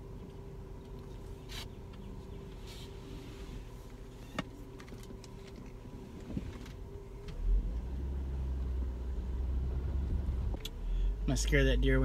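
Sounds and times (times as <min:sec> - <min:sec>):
deep engine rumble: 0:00.0 - 0:12.0.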